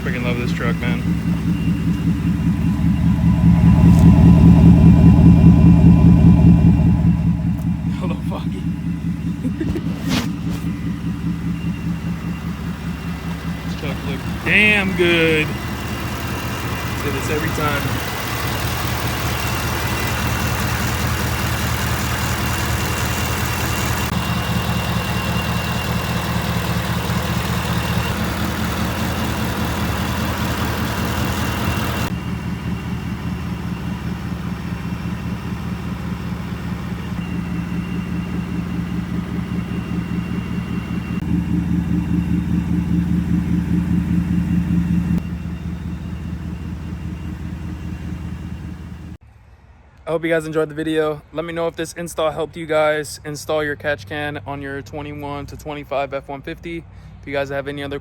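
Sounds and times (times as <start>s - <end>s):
car engine idling: 0.0s - 49.2s.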